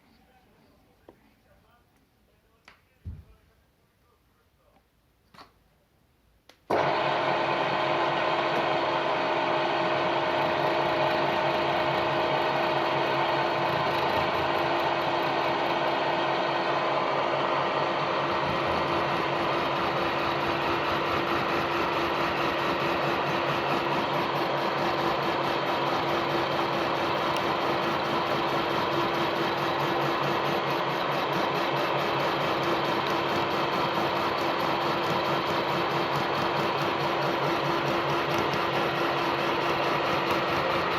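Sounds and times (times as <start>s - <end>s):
milling machine humming: 6.7s - 40.9s.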